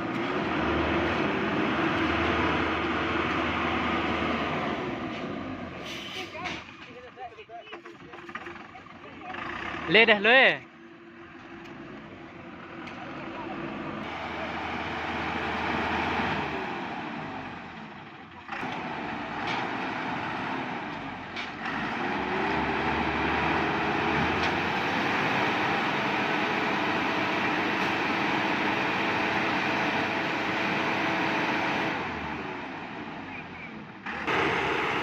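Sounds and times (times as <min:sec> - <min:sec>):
truck engine revving: 0:00.0 - 0:06.7, 0:07.9 - 0:35.0.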